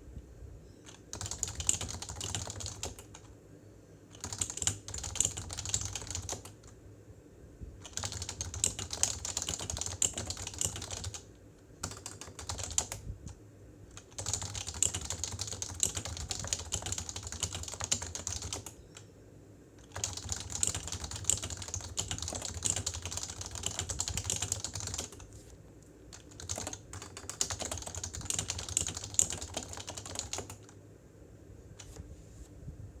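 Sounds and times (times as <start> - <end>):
fast keyboard typing: 0.9 - 3.3, 4.1 - 6.8, 7.8 - 19.1, 19.8 - 25.3, 26.1 - 30.8.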